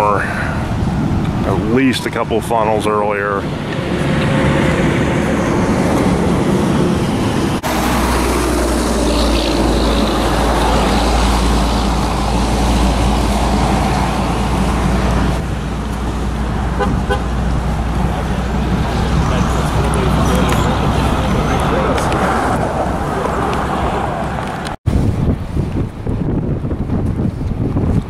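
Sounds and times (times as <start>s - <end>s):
road traffic: 0.0s - 28.0s
wind: 0.0s - 28.0s
wind buffeting microphone: 0.0s - 28.0s.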